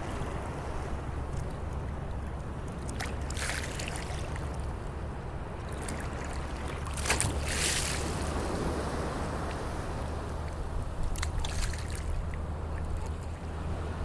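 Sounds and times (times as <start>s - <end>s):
sea waves washing ashore: 0.0s - 14.0s.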